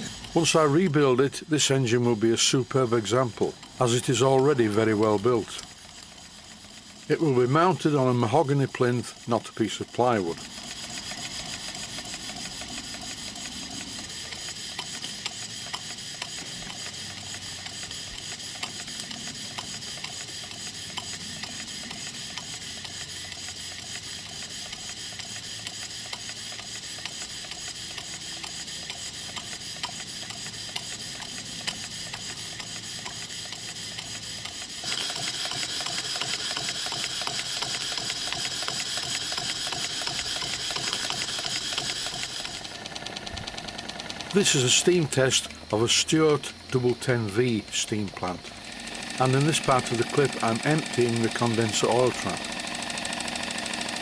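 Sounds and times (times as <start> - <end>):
steam engine ticking beat: 0.0 - 54.0
steam hissing from leaks: 0.0 - 54.0.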